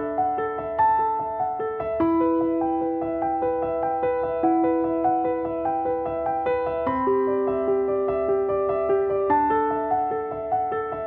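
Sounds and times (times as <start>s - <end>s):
gentle keyboard music: 0.0s - 11.0s.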